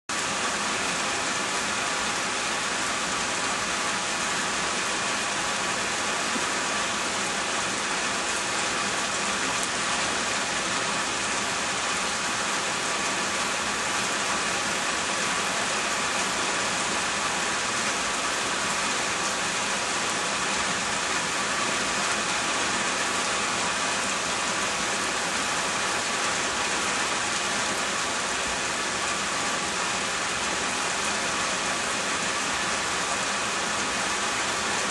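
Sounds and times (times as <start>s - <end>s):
rain pattering on surfaces: 0.1s - 34.9s.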